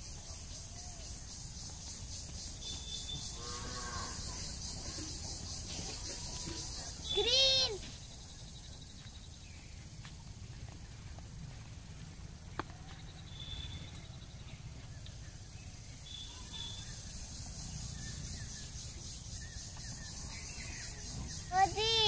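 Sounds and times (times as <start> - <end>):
faint bird chirps: 0.0 - 11.1, 12.5 - 22.0.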